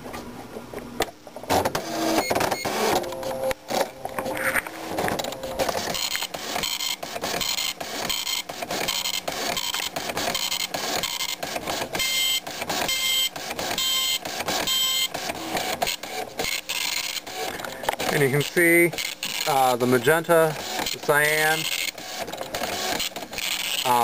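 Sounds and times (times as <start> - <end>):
dot matrix printer rasping: 1.5 - 24.0.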